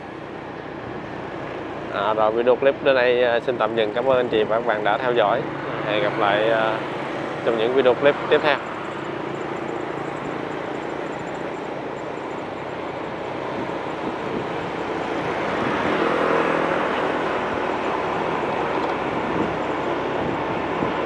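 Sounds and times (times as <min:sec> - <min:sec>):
engine rumble: 0:00.0 - 0:21.0
wind noise: 0:00.0 - 0:21.0.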